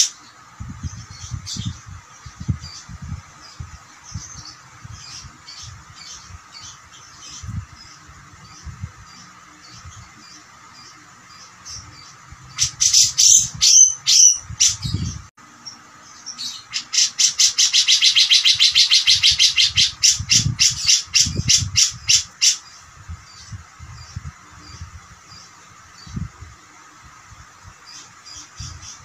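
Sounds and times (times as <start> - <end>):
bird calling with rattling notes: 0.0 - 26.8.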